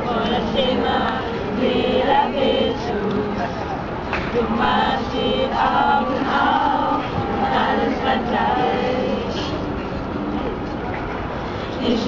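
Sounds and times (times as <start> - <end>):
voices singing a chant-like melody: 0.0 - 9.9, 11.6 - 12.0.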